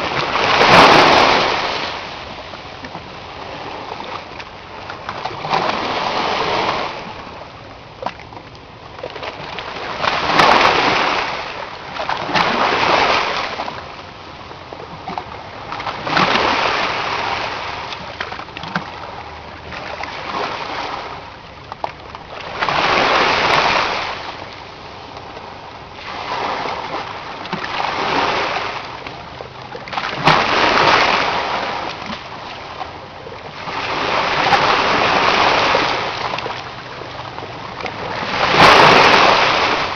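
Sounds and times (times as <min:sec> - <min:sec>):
sea waves splashing: 0:00.0 - 0:39.9.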